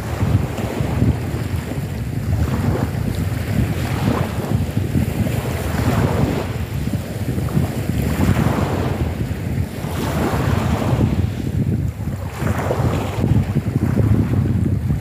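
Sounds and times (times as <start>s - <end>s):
waves washing onto pebble beach: 0.0s - 15.0s
wind rumbling on microphone: 0.0s - 15.0s.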